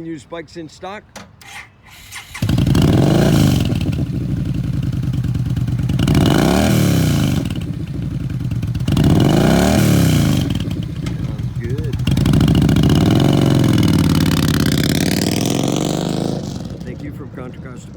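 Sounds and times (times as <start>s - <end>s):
motorcycle engine revving: 1.4s - 17.9s.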